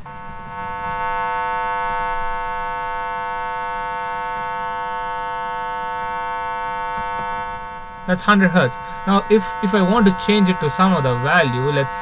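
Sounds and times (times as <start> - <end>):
buzzy square-wave tone: 0.0 - 12.0.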